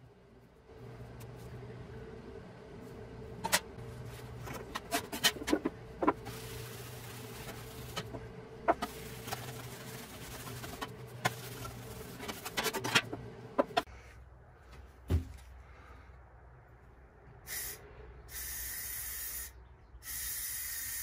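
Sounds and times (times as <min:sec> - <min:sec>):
steady low hum: 0:00.0 - 0:20.4.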